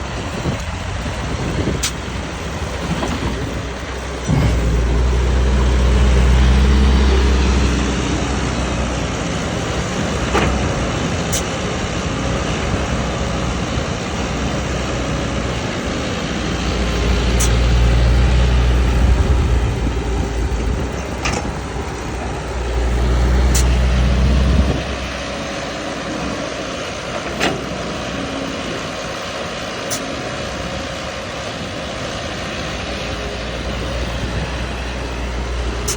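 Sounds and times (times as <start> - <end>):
motor rumbling: 0.0 - 35.9.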